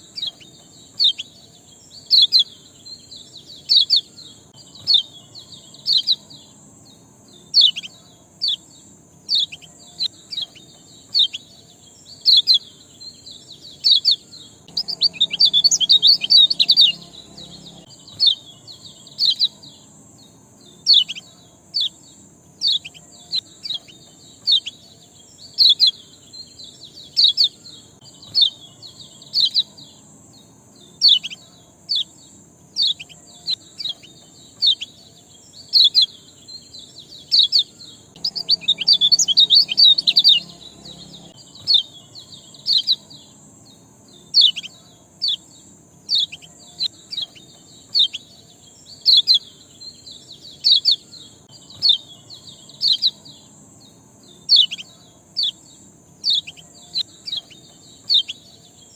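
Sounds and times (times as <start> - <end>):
songbird chirps: 0.0 - 58.9.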